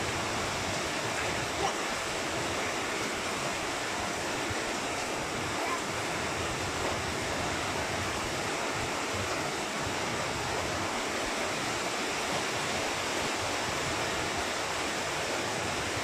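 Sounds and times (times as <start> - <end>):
electric fan airflow: 0.0 - 16.0.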